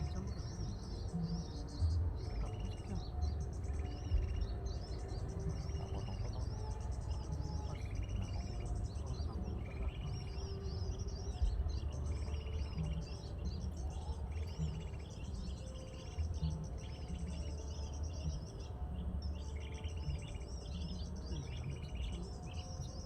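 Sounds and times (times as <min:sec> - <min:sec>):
buzzy bird trills: 0:00.0 - 0:23.0
small birds chirping: 0:00.0 - 0:23.0.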